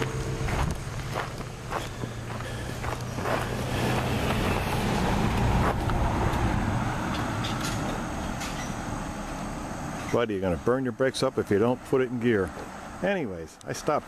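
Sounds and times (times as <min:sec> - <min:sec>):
car towing trailer driving past: 0:00.0 - 0:13.1.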